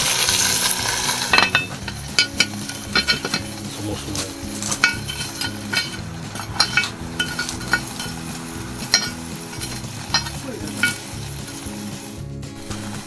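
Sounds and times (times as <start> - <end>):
sizzling hiss: 0.0 - 13.0
wood fire crackling: 0.0 - 13.0.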